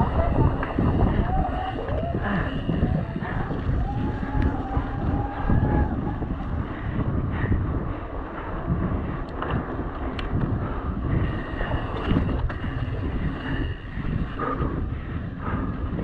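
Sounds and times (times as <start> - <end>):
bike tyres on mud: 0.0 - 14.3
bike clicks and rattles: 0.0 - 16.0
wind buffeting microphone: 0.0 - 16.0.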